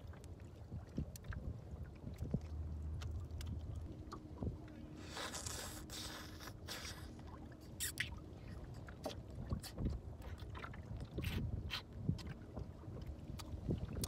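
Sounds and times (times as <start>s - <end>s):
sea water lapping: 0.0s - 14.0s
wind: 0.0s - 14.0s.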